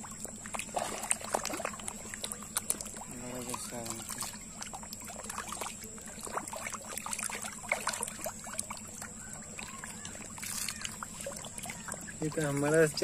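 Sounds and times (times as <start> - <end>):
fish splashing at water surface: 0.0 - 13.0
steady hum: 0.0 - 13.0.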